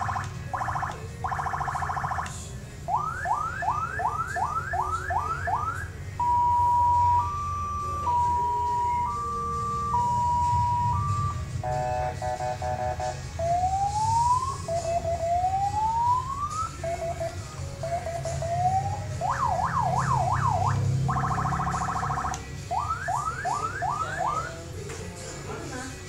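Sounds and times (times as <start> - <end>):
electronic siren: 0.0 - 24.6.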